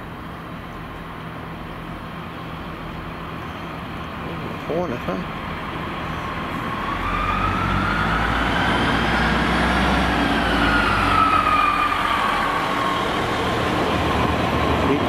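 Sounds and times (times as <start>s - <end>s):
diesel railcar engine rumble: 0.0s - 15.0s.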